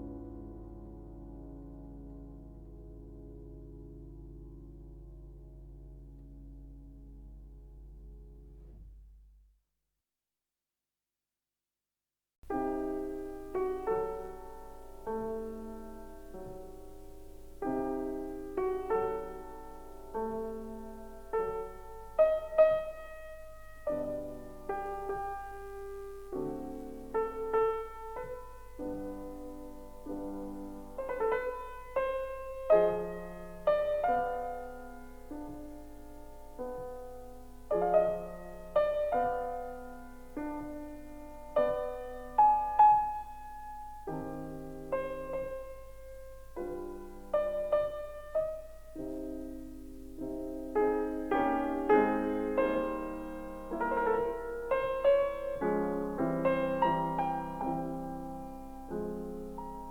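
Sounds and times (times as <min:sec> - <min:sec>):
solo piano music: 0:00.0 - 0:09.5, 0:12.4 - 0:59.9.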